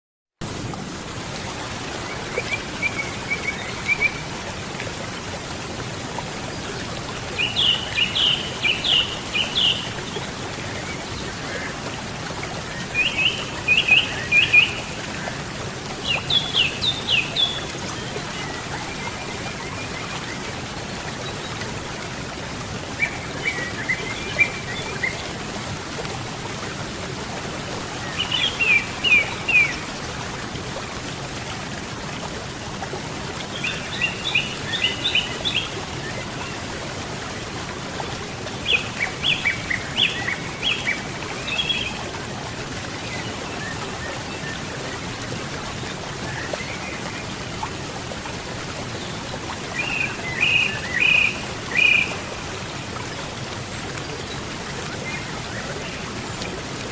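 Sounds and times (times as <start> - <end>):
river rushing: 0.5 - 56.9.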